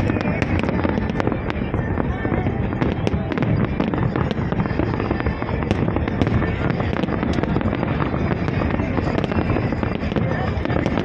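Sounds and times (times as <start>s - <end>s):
fireworks cracks and pops: 0.0s - 11.0s.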